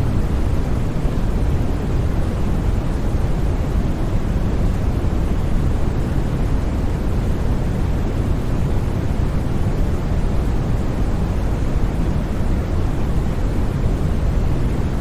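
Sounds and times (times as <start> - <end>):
deep white noise: 0.0 - 15.0.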